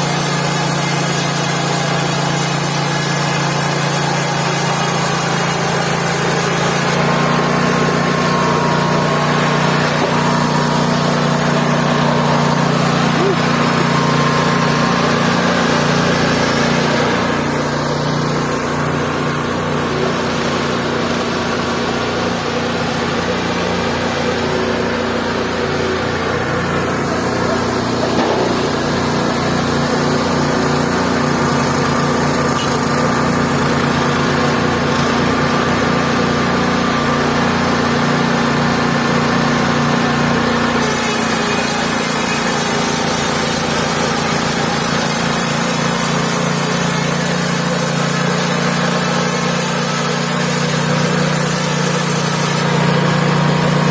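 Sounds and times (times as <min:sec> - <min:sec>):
small engine running: 0:00.0 - 0:53.9.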